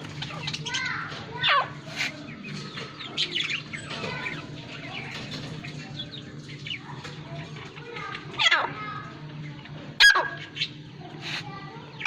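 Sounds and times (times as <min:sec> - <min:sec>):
caged birds chirping and squawking: 0:00.0 - 0:12.0.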